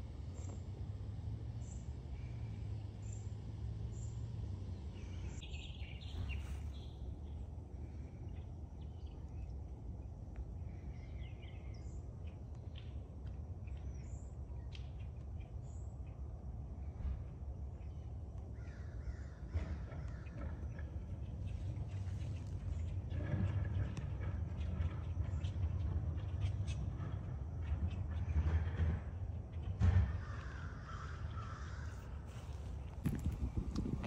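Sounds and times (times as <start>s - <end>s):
low background rumble: 0.0s - 34.0s
small birds chirping: 1.6s - 28.4s, 30.2s - 34.0s.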